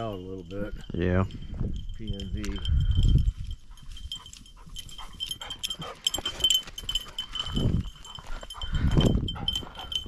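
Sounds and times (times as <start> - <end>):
dog collar bell ringing: 0.0 - 10.0.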